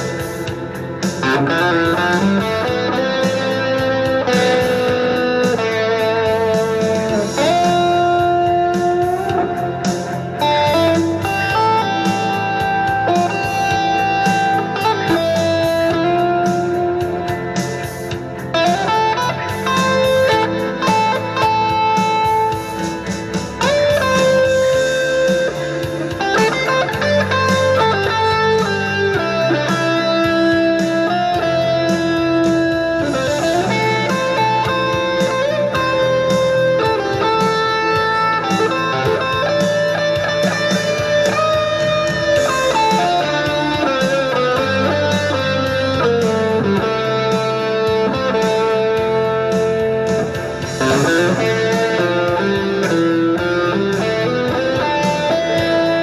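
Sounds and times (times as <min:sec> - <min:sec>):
electric guitar blues-rock lead: 0:00.0 - 0:56.0.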